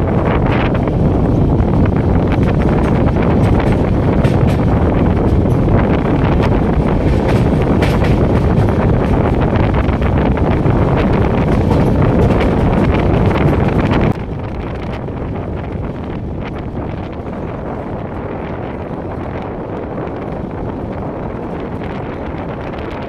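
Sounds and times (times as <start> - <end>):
moving train noise: 0.0 - 23.0
wind buffeting microphone: 0.0 - 23.0.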